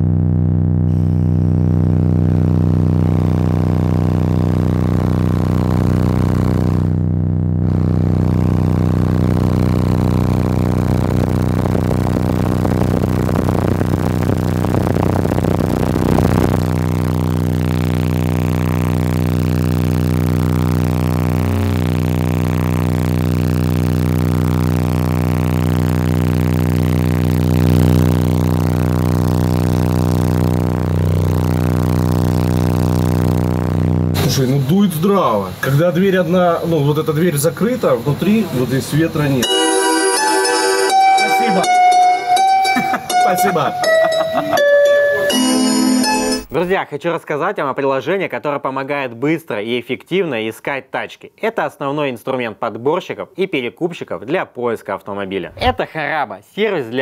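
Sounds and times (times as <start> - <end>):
subwoofers playing low test tone: 0.0 - 46.8.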